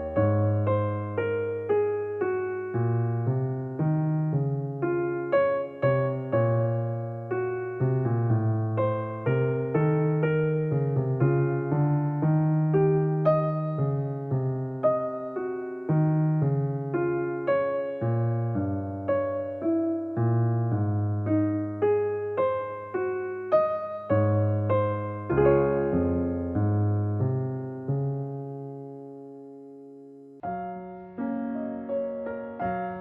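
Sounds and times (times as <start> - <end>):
gentle piano melody: 0.0 - 33.0.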